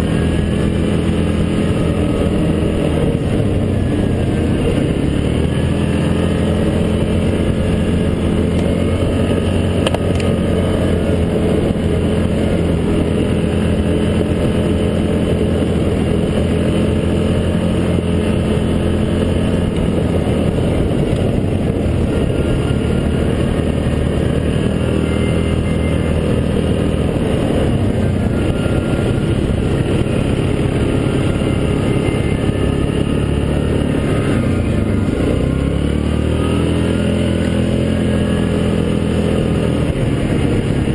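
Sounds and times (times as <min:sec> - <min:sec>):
quad engine running: 0:00.0 - 0:40.9.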